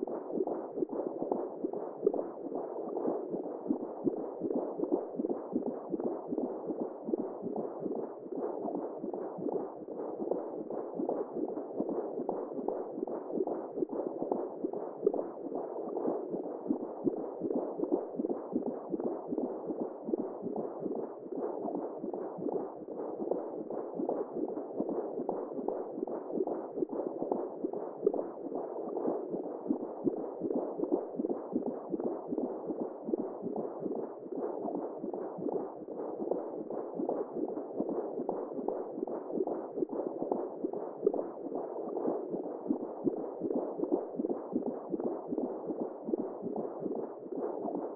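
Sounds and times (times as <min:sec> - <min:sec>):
muffled whooshing womb sound: 0:00.0 - 0:47.9.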